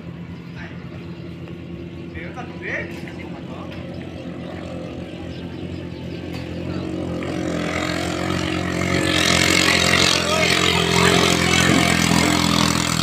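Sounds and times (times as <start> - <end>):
boat engine running flat out: 0.0 - 13.0.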